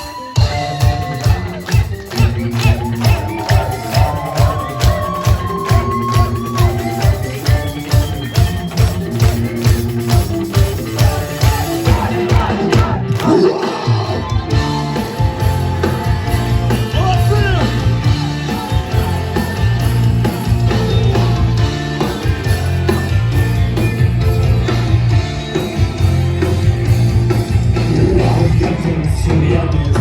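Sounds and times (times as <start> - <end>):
rock band playing instrumental: 0.0 - 30.0.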